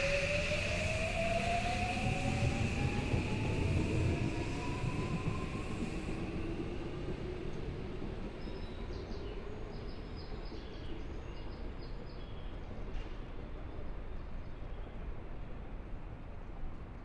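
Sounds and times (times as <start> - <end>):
electric train rumble and hum: 0.0 - 17.0.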